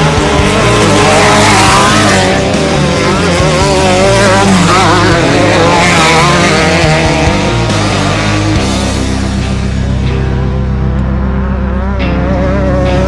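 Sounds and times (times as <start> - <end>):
engines revving hard: 0.0 - 10.0, 10.9 - 13.0.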